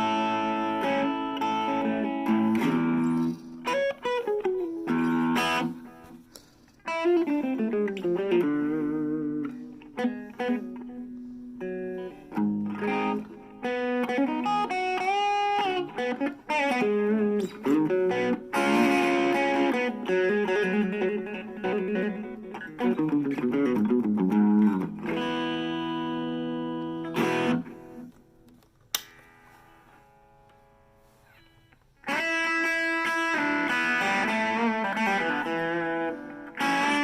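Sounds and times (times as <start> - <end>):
electric guitar playing: 0.0 - 37.0.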